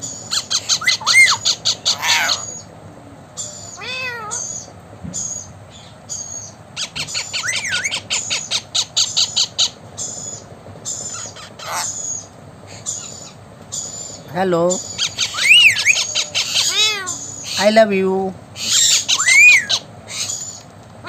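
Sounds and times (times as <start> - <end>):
parrot squawking: 0.2 - 2.7, 3.4 - 4.7, 6.1 - 17.9, 18.6 - 20.6.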